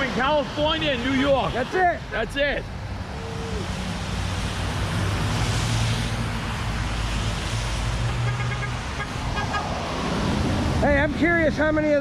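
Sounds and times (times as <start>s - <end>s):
tyres hissing on wet road: 0.0s - 11.2s.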